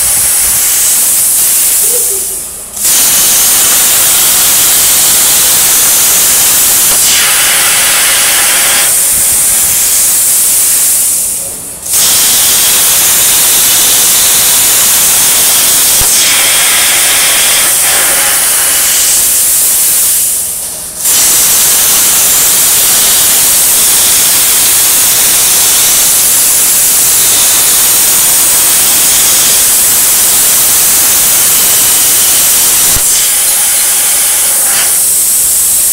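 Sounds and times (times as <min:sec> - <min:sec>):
plasma cutter hissing: 0:00.0 - 0:35.9.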